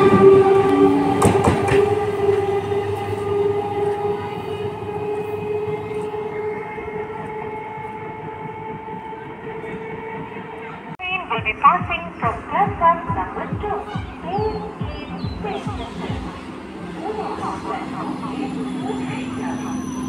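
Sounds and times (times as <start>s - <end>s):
train humming tone: 0.0s - 20.0s.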